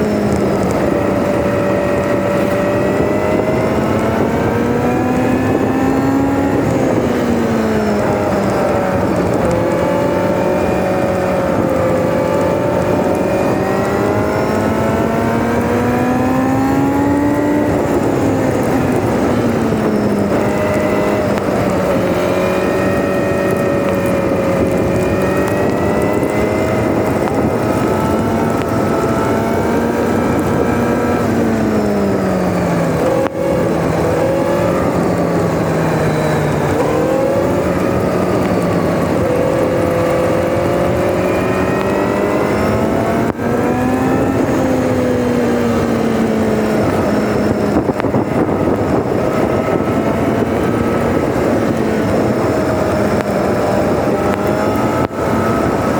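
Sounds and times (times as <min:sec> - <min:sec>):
motorcycle exhaust cruising: 0:00.0 - 0:55.9.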